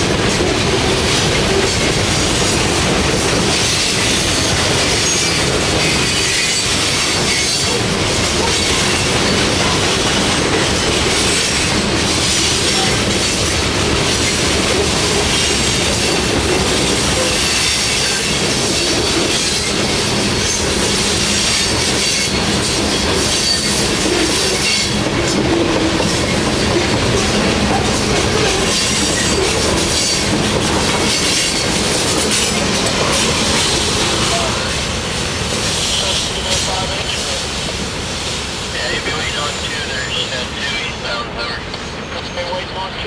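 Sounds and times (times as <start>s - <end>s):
freight train wheels rumbling on rails: 0.0s - 43.0s.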